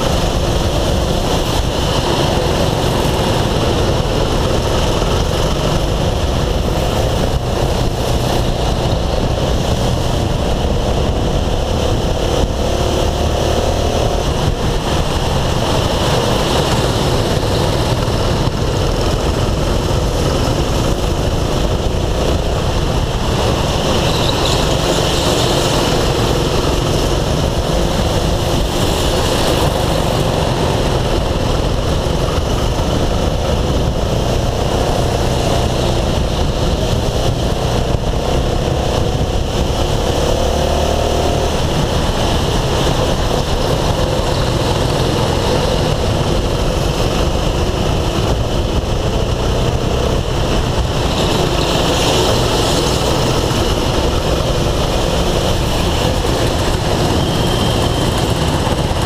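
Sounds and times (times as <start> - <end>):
go-kart engine rumbling: 0.0 - 59.0.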